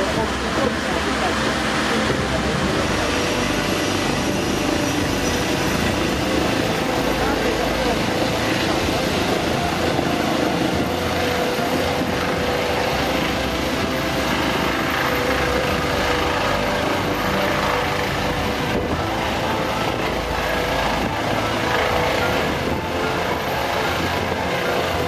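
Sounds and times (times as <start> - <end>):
helicopter lifting off: 0.0 - 25.0.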